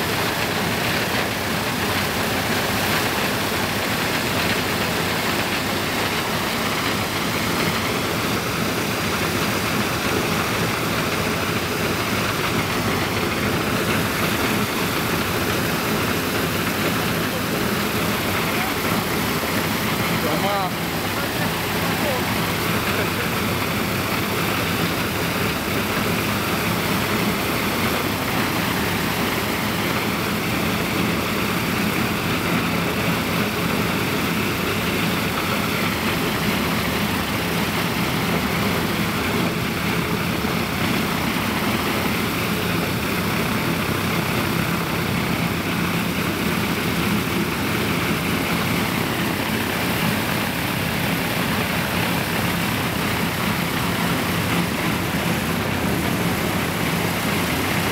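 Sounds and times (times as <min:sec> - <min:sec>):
propeller engine droning: 0:00.0 - 0:57.9.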